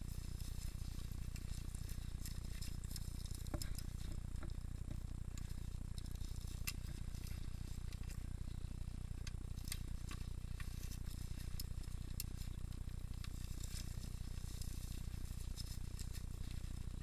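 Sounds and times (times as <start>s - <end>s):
bike rumbling over rough trail: 0.0s - 17.0s.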